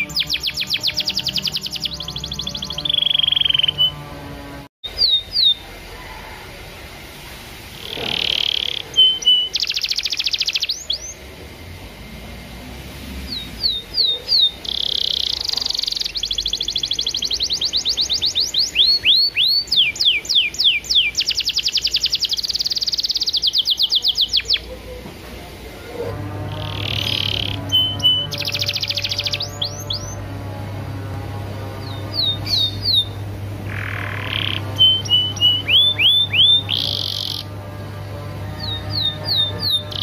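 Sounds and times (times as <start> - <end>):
canary singing trills: 0.0 - 5.9, 7.8 - 11.3, 13.2 - 25.0, 26.2 - 40.0.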